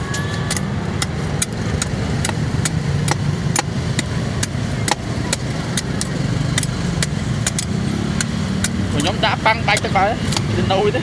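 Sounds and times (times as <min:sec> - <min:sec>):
blade chopping coconut: 0:00.5 - 0:10.6.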